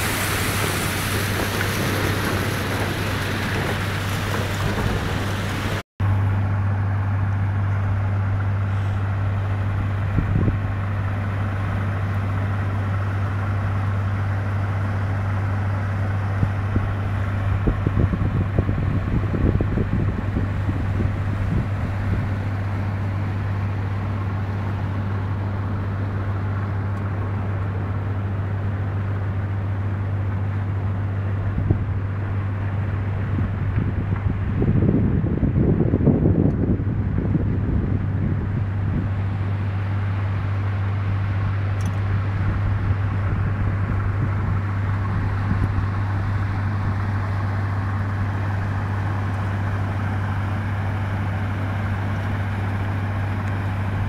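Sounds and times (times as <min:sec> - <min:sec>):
hiss of wind and water: 0:00.0 - 0:54.0
ship engine drone: 0:00.0 - 0:54.0.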